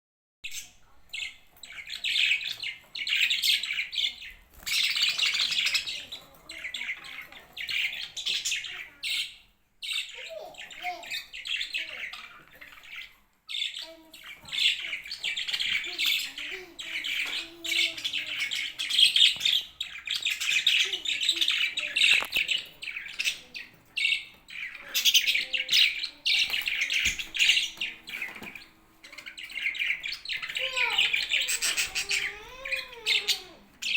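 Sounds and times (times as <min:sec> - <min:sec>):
budgerigars chattering and warbling: 0:00.4 - 0:33.9.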